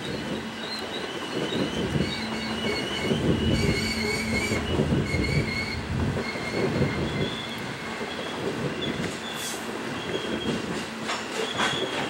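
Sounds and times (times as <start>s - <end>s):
high wheel squeals: 0.0s - 12.0s
train wheels clattering on rails: 0.0s - 12.0s.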